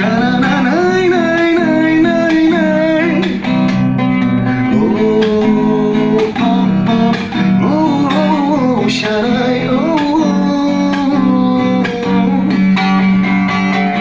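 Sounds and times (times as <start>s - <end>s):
person singing: 0.0s - 3.6s, 4.3s - 14.0s
strummed acoustic guitar chords: 0.0s - 14.0s.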